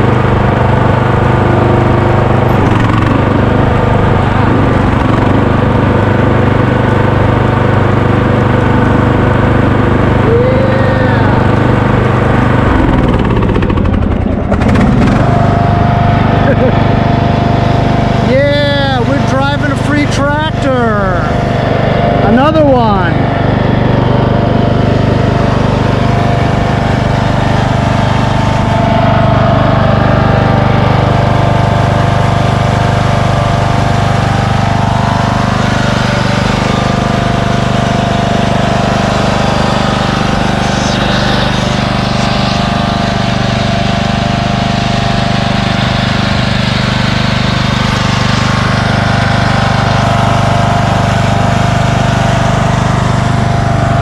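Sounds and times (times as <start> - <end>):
lawn tractor engine running: 0.0 - 54.0.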